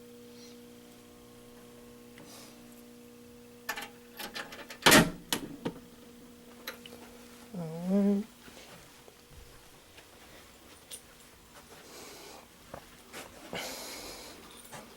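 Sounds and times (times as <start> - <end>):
low electrical hum: 0.0 - 14.9.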